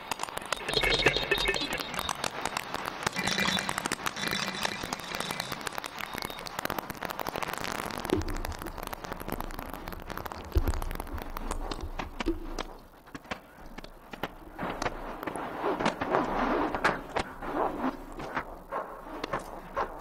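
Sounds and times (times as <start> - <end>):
crackling clicks and hiss: 0.0 - 20.0.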